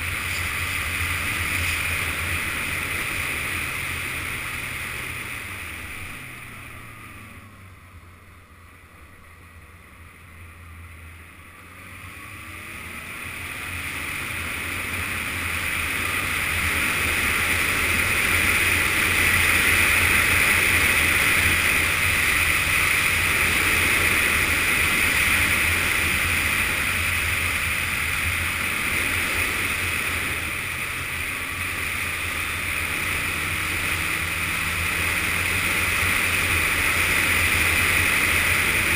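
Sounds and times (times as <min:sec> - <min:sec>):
motorcycle engine hum: 0:00.0 - 0:38.9.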